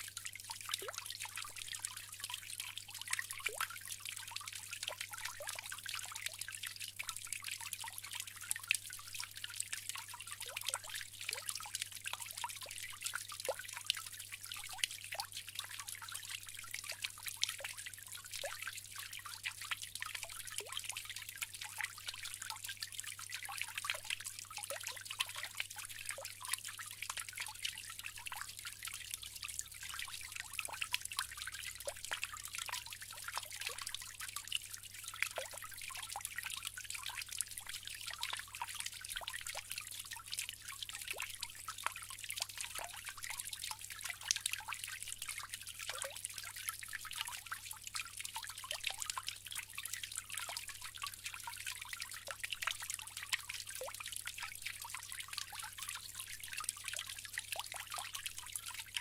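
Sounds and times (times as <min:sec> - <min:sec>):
water fountain trickling: 0:00.0 - 0:59.0.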